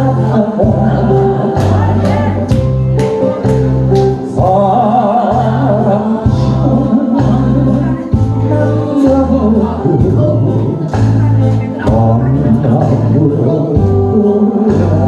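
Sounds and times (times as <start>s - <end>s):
bass line: 0.0s - 15.0s
man singing: 0.0s - 15.0s.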